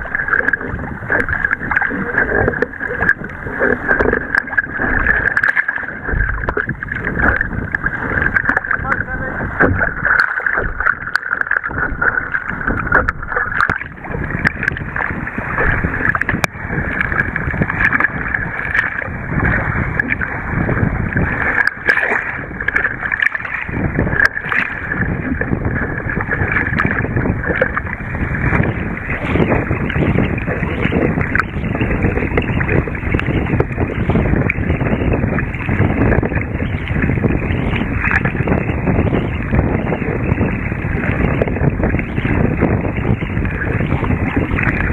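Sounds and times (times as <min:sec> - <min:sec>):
paddle splashes: 0:00.0 - 0:44.9
water slapping along a hull: 0:00.0 - 0:44.9
wind buffeting microphone: 0:00.0 - 0:44.9.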